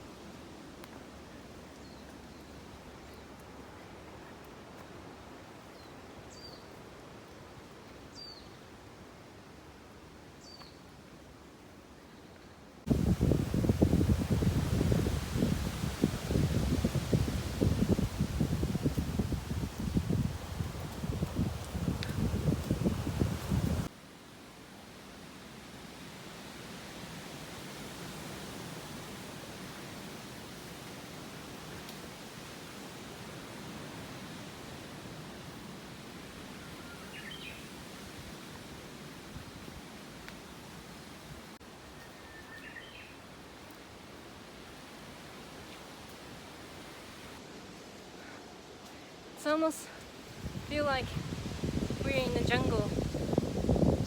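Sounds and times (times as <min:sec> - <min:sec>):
faint outdoor hiss: 0:00.0 - 0:54.0.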